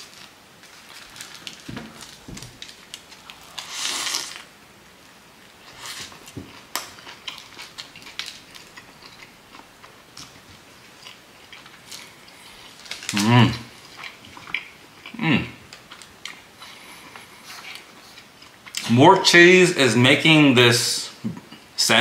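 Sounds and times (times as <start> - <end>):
crunchy crust crackling: 0.0 - 19.0.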